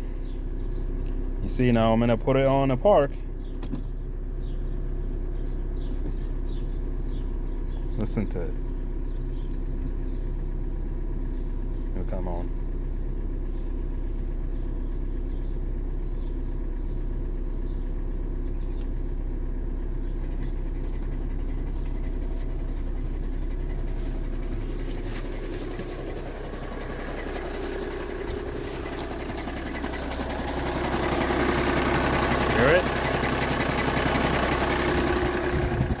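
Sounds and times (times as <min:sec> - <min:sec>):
diesel engine idling with knocking: 0:00.0 - 0:36.0.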